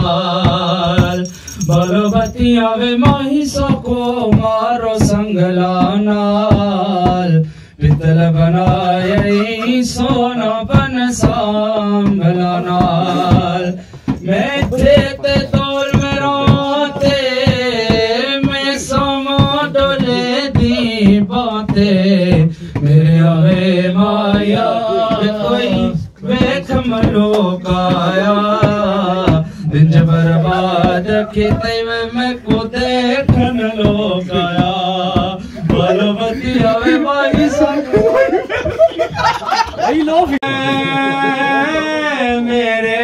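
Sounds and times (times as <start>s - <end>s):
sharp percussive beats: 0.0s - 40.4s
man singing into a microphone: 0.0s - 43.0s.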